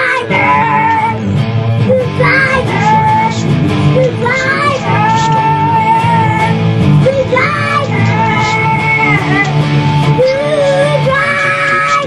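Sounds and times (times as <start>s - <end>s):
person singing long wavering notes: 0.0s - 12.0s
rock band playing: 0.0s - 12.0s.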